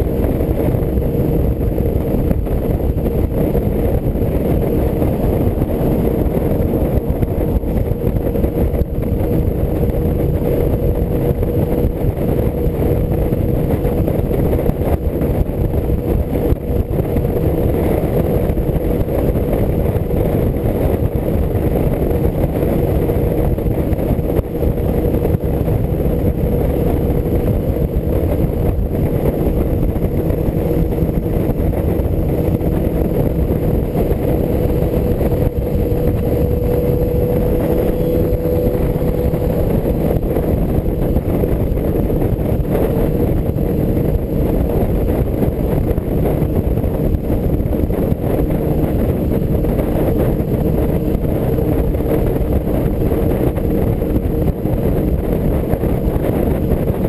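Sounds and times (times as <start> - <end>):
motorcycle engine droning: 0.0 - 57.0
wind rushing on microphone: 0.0 - 57.0.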